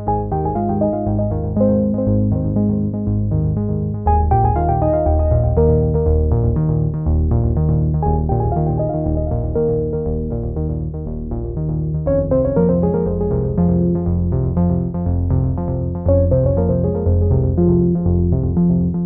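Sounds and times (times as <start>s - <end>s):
synthesizer and keyboard music: 0.0s - 19.0s
steady bass pulse: 0.1s - 19.0s.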